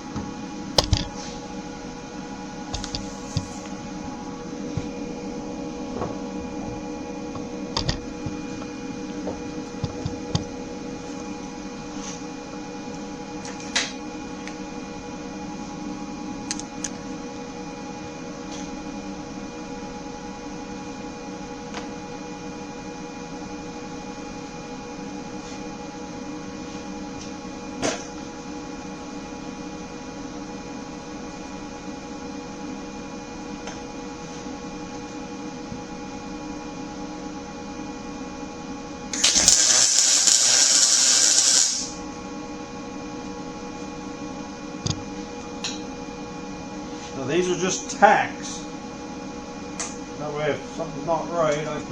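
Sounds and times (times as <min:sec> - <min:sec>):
steady electrical hum: 0:00.0 - 0:51.9.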